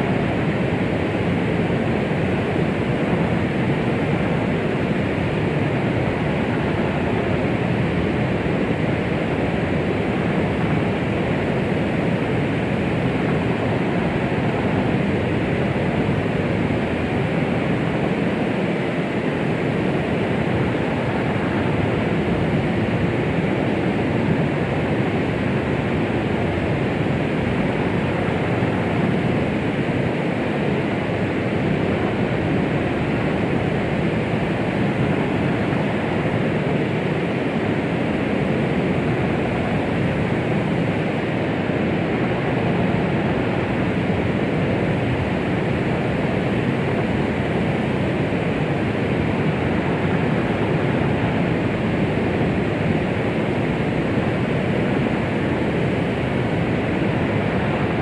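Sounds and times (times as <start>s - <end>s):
low white noise hiss: 0.0s - 58.0s.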